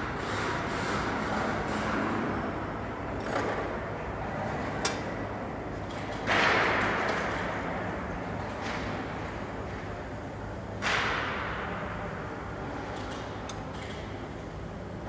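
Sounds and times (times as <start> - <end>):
factory floor noise: 0.0 - 15.0.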